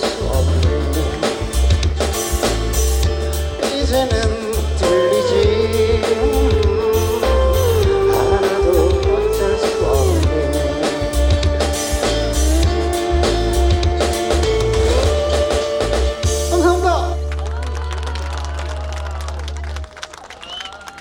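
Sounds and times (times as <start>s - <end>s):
acoustic guitar: 0.0s - 17.6s
drum and bass beat: 0.0s - 19.1s.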